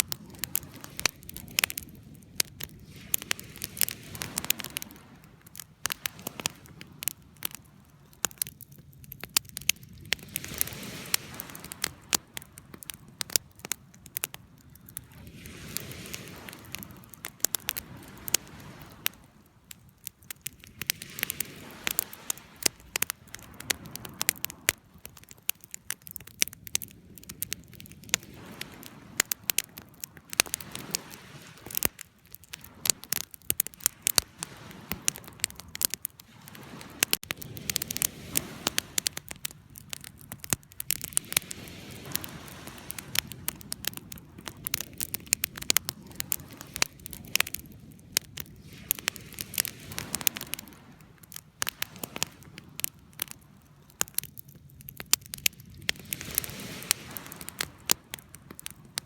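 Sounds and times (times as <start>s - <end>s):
campfire crackling: 0.0s - 59.0s
low rush of burning wood: 0.0s - 59.0s.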